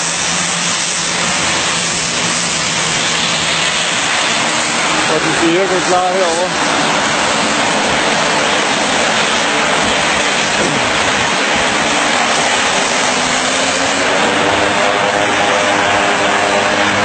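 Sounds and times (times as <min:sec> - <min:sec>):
propeller plane engines roaring: 0:00.0 - 0:17.0.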